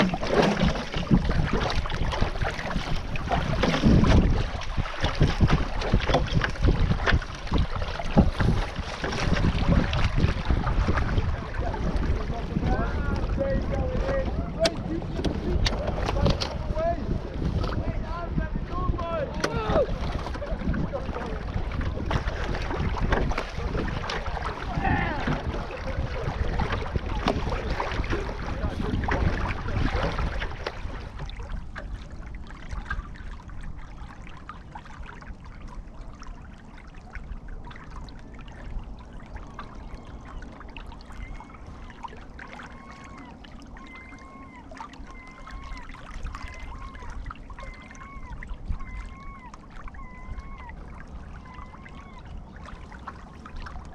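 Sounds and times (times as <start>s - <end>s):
wind on microphone: 0.0s - 36.1s, 37.3s - 53.9s
water splashing along a hull: 0.0s - 53.9s.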